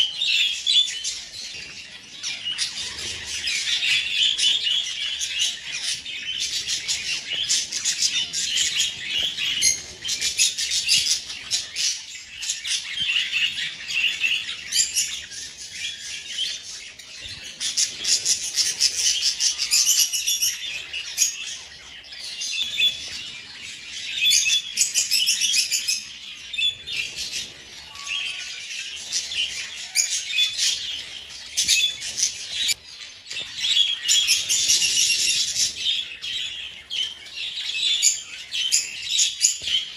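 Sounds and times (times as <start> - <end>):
budgies chirping and squawking: 0.0 - 39.9.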